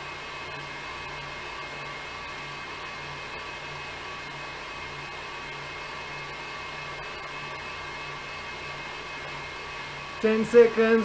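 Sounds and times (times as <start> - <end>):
exercise bike whirring: 0.0 - 11.0
pulsing low hum: 0.0 - 11.0.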